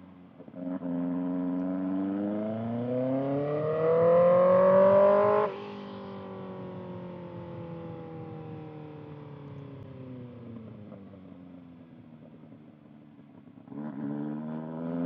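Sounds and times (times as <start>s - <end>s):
motorcycle accelerating and decelerating: 0.0s - 15.0s.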